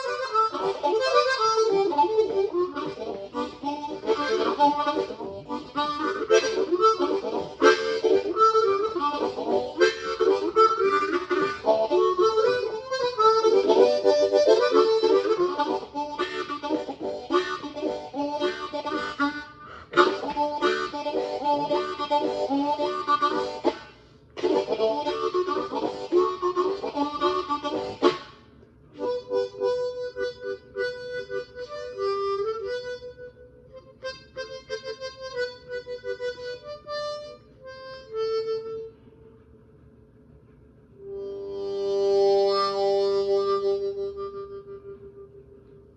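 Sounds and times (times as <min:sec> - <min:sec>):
harmonica playing: 0:00.0 - 0:39.4, 0:41.0 - 0:45.6.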